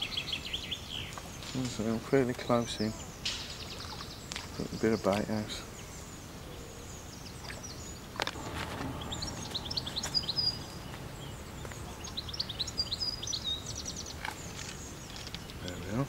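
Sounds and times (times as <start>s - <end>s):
outdoor background noise: 0.0s - 16.0s
songbird chirps and trills: 0.0s - 16.0s.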